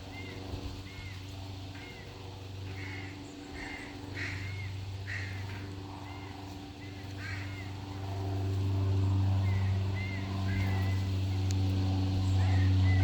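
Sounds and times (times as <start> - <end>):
young bird calling: 0.0 - 7.9, 9.4 - 11.6, 12.3 - 13.0
steady low hum: 0.0 - 13.0.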